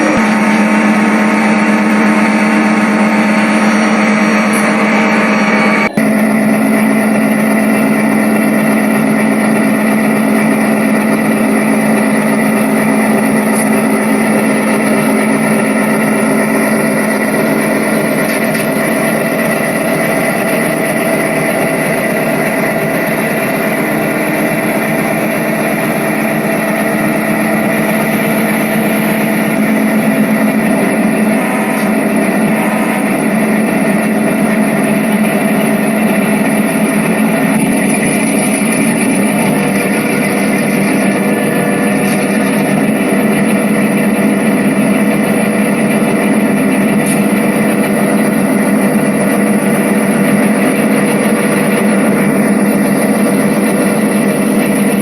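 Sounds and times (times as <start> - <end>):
diesel locomotive engine humming: 0.0 - 55.0.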